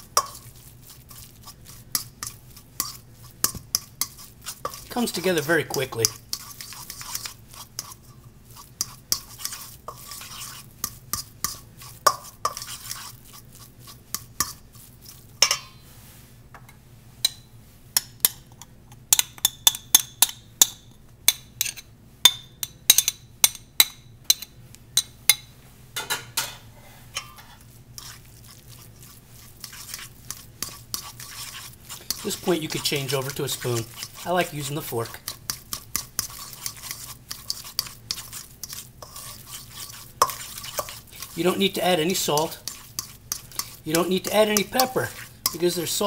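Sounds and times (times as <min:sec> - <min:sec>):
fork clinking in metal bowl: 0:00.0 - 0:08.0, 0:08.6 - 0:13.4, 0:15.4 - 0:15.8, 0:17.2 - 0:26.6, 0:27.2 - 0:46.0.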